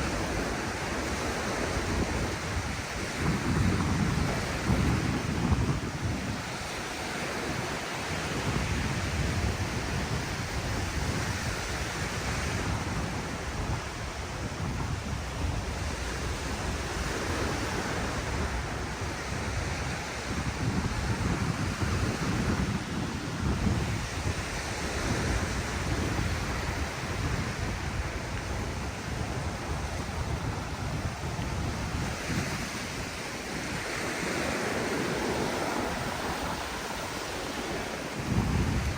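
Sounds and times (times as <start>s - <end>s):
ocean surf washing on beach: 0.0s - 38.9s
wind buffeting microphone: 0.0s - 38.9s.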